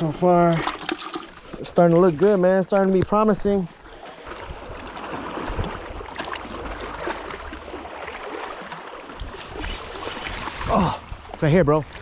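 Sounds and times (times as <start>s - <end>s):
water lapping and sloshing: 0.0s - 12.0s.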